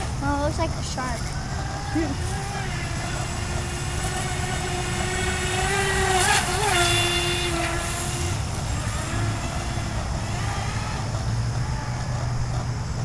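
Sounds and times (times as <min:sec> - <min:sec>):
rush of spray: 0:00.0 - 0:12.2
electric motor whining: 0:00.0 - 0:13.0.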